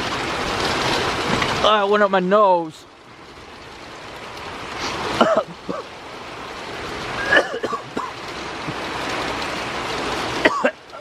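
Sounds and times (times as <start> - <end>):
heavy rain on microphone: 0.0 - 11.0.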